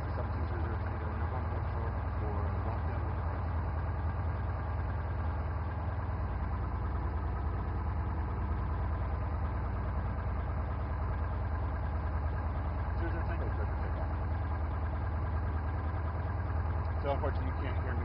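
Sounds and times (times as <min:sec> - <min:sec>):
propeller engine droning: 0:00.0 - 0:18.0.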